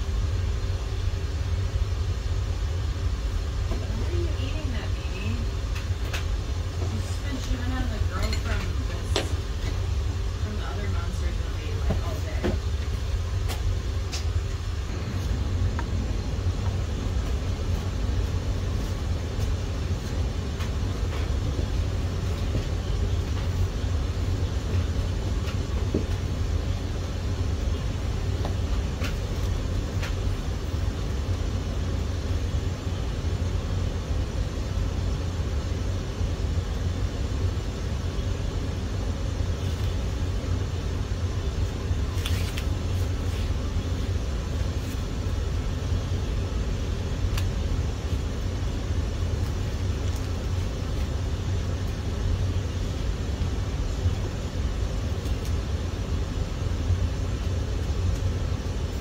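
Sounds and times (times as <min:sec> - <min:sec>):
low rumble: 0:00.0 - 0:59.0.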